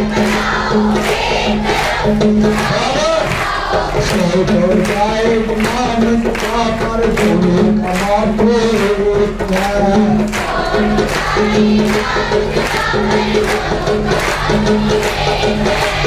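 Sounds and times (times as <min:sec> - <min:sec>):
group of voices singing: 0:00.0 - 0:16.0
instrumental backing with beat: 0:00.0 - 0:16.0.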